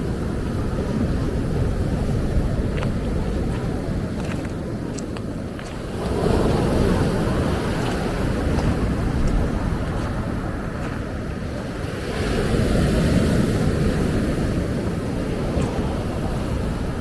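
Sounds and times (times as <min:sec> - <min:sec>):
ocean surf breaking on beach: 0:00.0 - 0:17.0
wind rumbling on microphone: 0:00.0 - 0:17.0.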